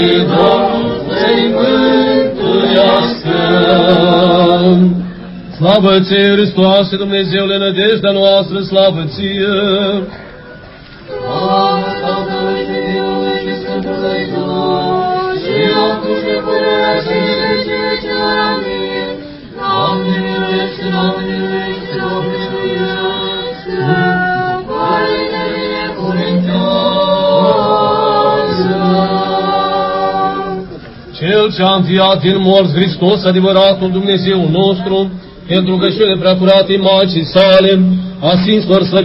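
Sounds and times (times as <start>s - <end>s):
choir singing a cappella: 0.0s - 6.8s, 11.1s - 37.8s.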